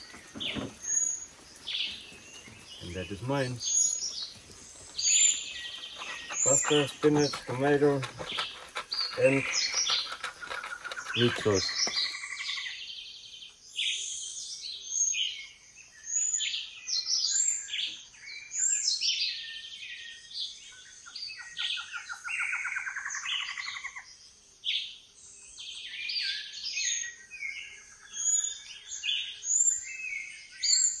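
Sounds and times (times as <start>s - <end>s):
birds calling and chirping: 0.0s - 31.0s.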